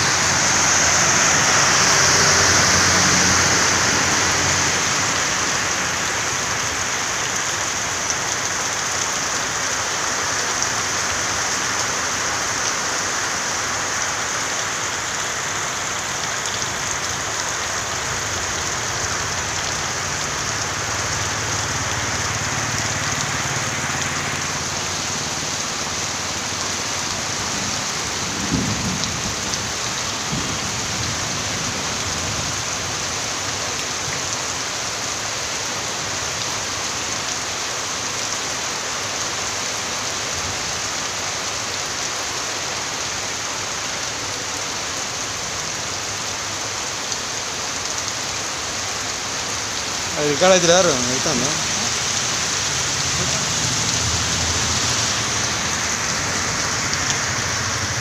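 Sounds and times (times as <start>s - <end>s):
rain falling on wet road: 0.0s - 58.0s.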